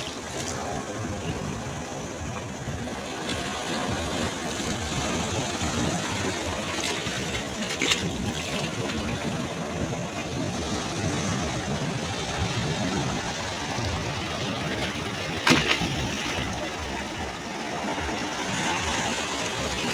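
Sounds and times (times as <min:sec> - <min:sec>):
ocean waves on shore: 0:00.0 - 0:19.9.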